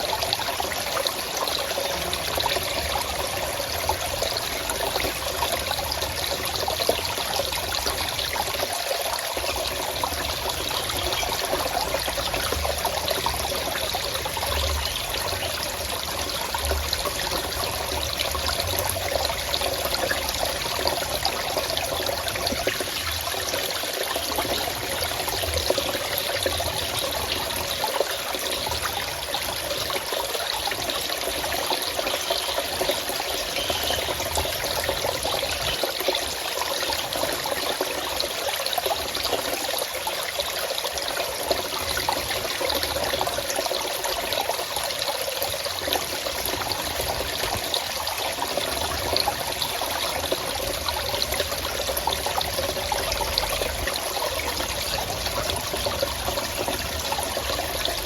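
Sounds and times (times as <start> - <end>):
stream water flowing over rocks: 0.0 - 58.0.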